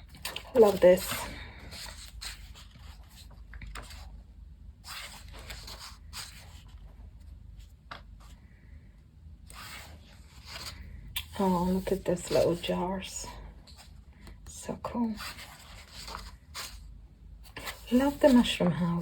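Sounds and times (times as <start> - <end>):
paper pages rustling: 0.0 - 4.2, 4.8 - 8.4, 9.4 - 13.1, 15.1 - 19.0.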